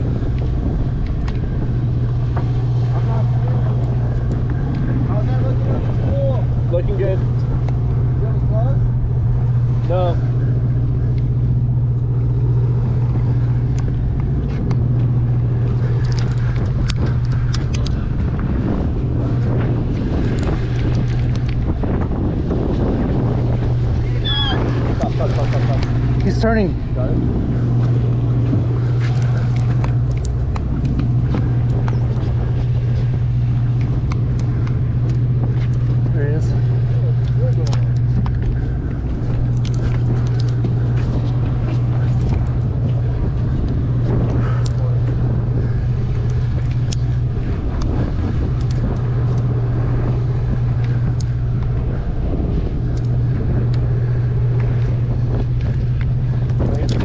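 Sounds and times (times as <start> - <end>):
boat engine drone: 0.0 - 57.0
water noise: 0.0 - 57.0
wind: 0.0 - 57.0.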